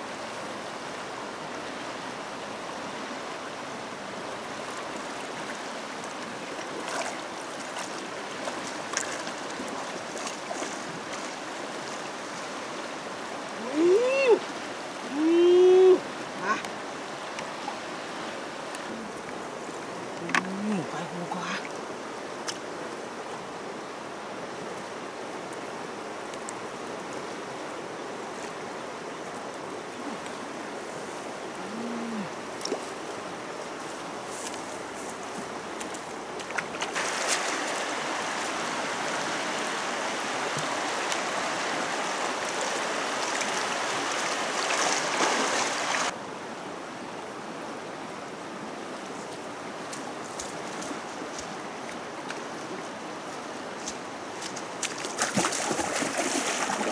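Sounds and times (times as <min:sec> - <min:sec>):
flooded river rushing: 0:00.0 - 0:56.9.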